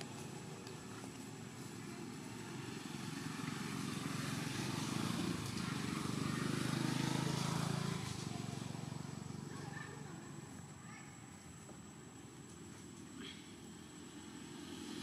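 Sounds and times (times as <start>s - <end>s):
vehicle engine passing by: 0.0s - 10.8s, 13.6s - 15.0s.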